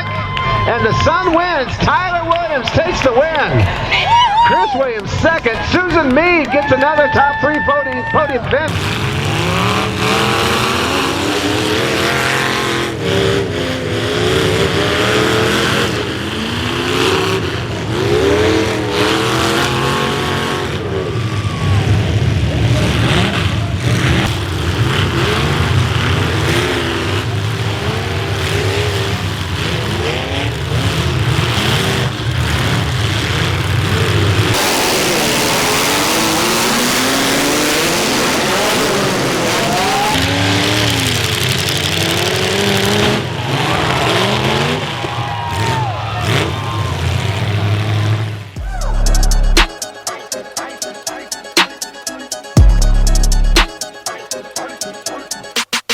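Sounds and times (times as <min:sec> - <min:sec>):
car engines revving: 0:00.0 - 0:50.4, 0:51.1 - 0:53.7
cars crashing: 0:00.0 - 0:52.8.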